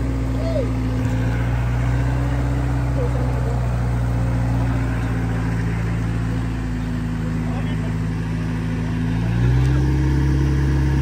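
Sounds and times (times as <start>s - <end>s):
vehicle engine running: 0.0s - 11.0s
faint voices: 0.3s - 9.9s.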